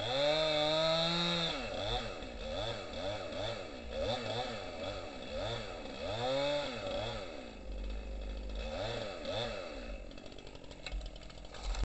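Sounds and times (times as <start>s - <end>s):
small engine revving: 0.0s - 11.8s.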